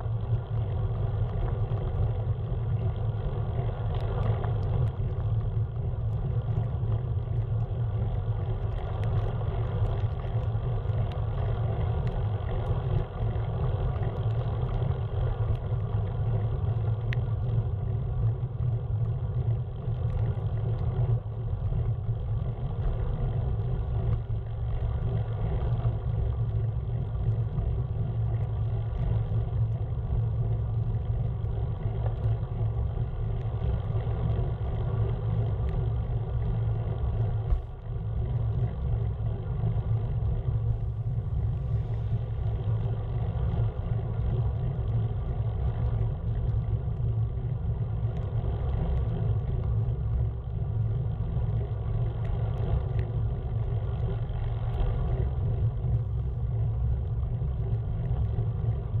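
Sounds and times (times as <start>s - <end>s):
low rumble of moving vehicle: 0.0s - 59.0s.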